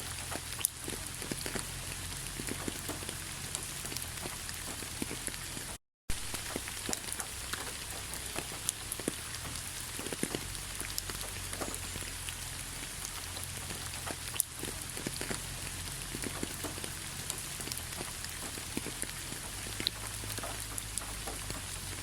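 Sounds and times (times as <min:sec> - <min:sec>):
raindrops tapping on a surface: 0:00.0 - 0:22.0.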